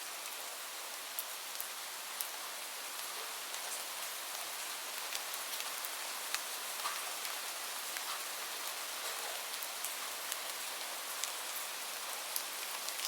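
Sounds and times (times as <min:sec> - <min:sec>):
rain hiss with drips: 0:00.0 - 0:13.0.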